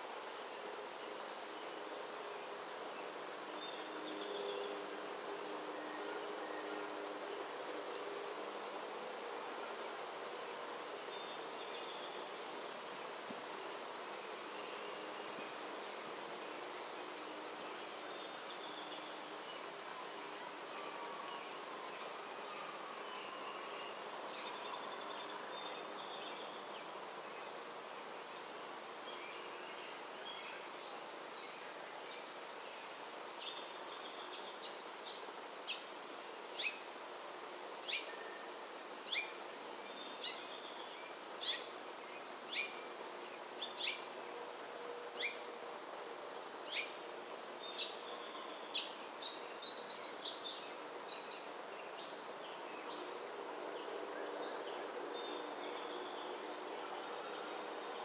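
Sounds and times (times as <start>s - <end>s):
outdoor background noise: 0.0s - 58.0s.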